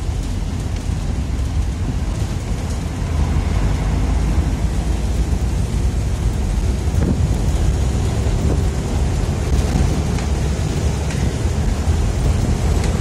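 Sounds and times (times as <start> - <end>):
car interior rumble: 0.0 - 13.0.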